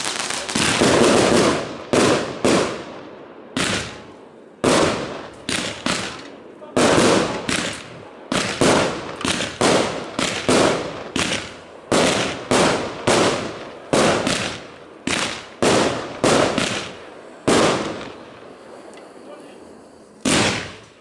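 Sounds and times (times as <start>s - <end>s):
fireworks bursting: 0.0s - 21.0s.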